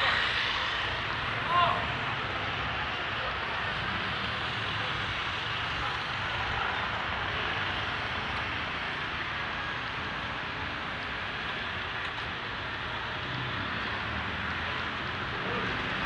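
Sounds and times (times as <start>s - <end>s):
motorbikes and cars passing: 0.0s - 16.0s.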